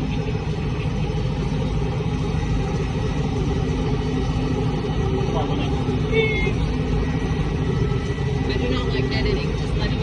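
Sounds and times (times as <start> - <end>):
tractor diesel engine drone: 0.0 - 10.0.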